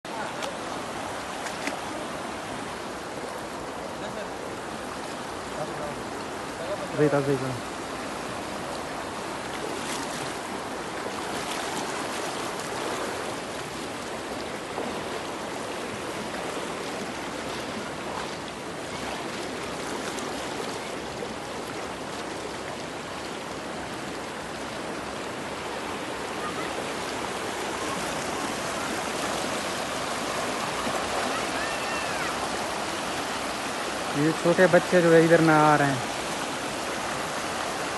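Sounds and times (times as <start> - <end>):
water rushing in a stream: 0.0 - 37.9.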